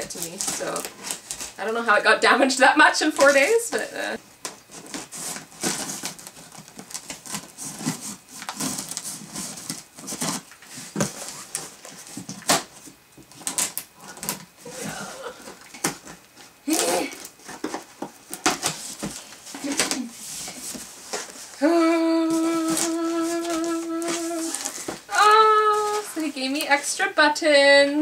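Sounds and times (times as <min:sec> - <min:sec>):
tape tearing: 0:00.0 - 0:01.6, 0:03.1 - 0:14.8, 0:15.7 - 0:26.6
cardboard rustling: 0:00.0 - 0:01.9, 0:03.0 - 0:26.8.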